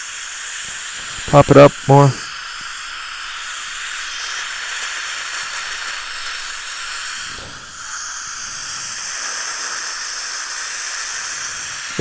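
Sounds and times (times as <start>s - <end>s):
dental suction hissing: 0.0s - 12.0s.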